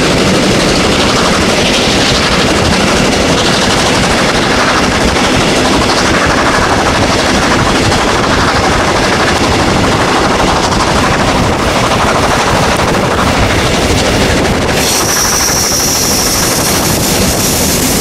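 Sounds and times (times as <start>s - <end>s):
steam locomotive exhaust chuffs: 0.0s - 18.0s.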